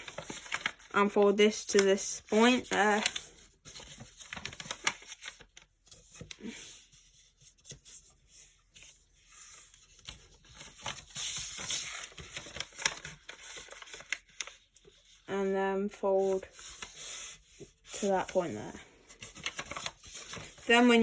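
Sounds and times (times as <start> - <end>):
paper sliding and rustling: 0.0 - 0.9, 2.3 - 15.3, 16.1 - 21.0
paper crinkling: 0.0 - 15.3, 16.2 - 21.0.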